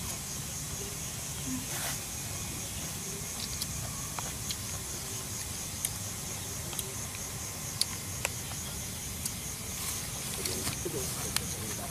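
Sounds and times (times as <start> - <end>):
insects chirring: 0.0 - 11.9.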